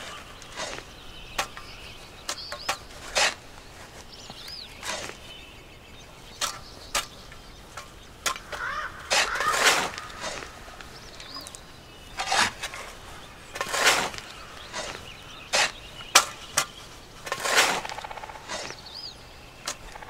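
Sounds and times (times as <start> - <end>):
digging tool striking ground: 0.0 - 3.4, 4.3 - 5.2, 6.4 - 18.8
birds chirping: 0.0 - 20.0.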